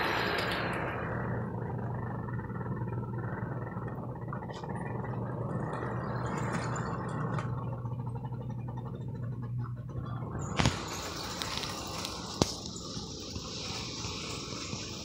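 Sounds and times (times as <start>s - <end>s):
wheel rumble: 0.0s - 15.0s
wheels clicking over track: 0.0s - 15.0s.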